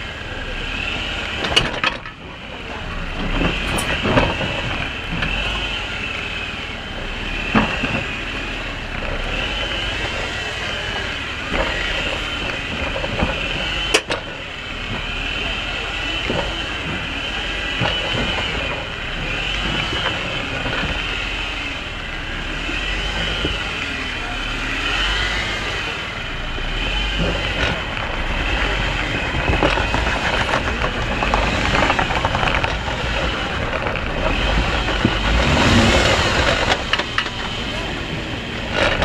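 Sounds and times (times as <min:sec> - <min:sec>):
engine running under load: 0:00.0 - 0:39.0
tires grinding on rock: 0:00.0 - 0:39.0
knocks and scrapes: 0:01.3 - 0:05.8, 0:07.4 - 0:39.0.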